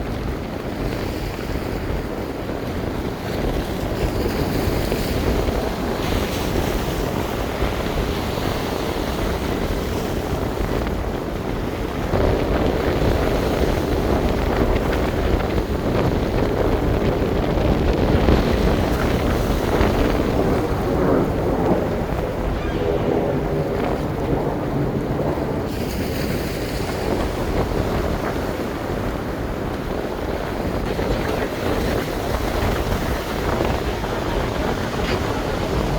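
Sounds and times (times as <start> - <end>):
wind buffeting microphone: 0.0 - 35.9
breaking surf: 1.4 - 35.9.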